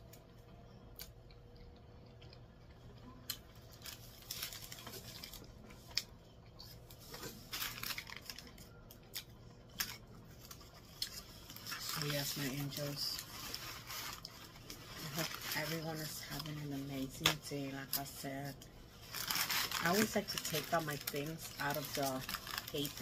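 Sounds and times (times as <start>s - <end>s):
paper wrapper crinkling: 3.6s - 23.0s.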